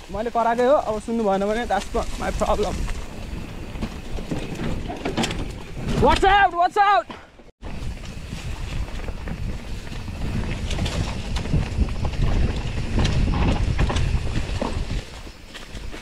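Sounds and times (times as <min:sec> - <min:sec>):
wind buffeting microphone: 0:00.0 - 0:06.4, 0:07.6 - 0:16.0
bike rattling on dirt trail: 0:00.0 - 0:16.0.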